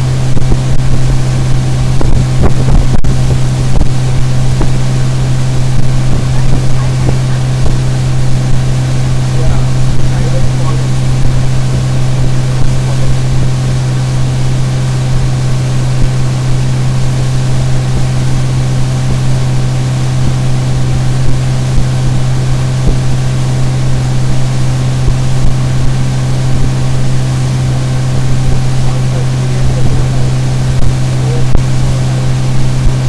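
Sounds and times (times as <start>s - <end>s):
outboard engine running: 0.0s - 33.0s
wind and water rushing: 0.0s - 33.0s.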